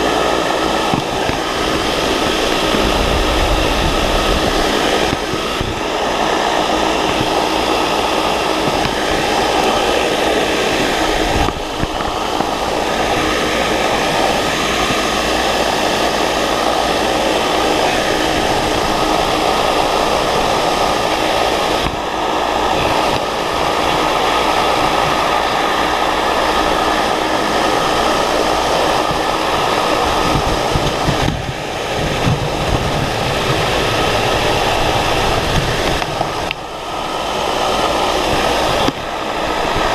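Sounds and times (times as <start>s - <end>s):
wind buffeting microphone: 0.0s - 39.9s
wind tunnel fan air rush: 0.0s - 39.9s.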